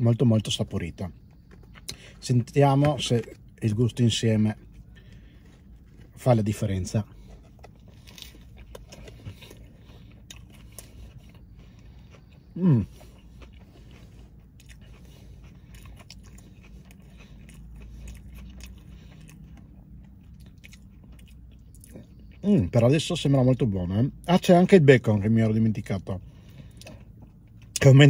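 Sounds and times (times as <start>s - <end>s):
person chewing burger: 0.1s - 28.0s.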